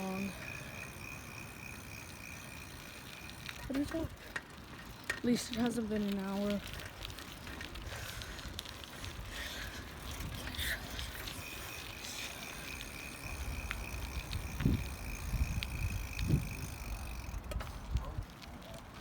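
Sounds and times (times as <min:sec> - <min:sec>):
road rumble: 0:00.0 - 0:19.0
wind: 0:00.0 - 0:19.0.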